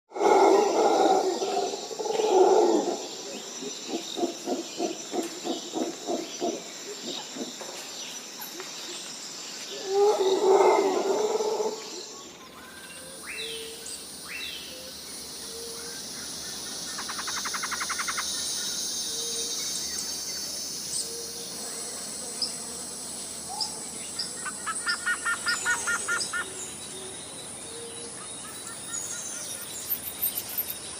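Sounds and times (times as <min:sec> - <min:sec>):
high insect drone: 0:00.1 - 0:30.9.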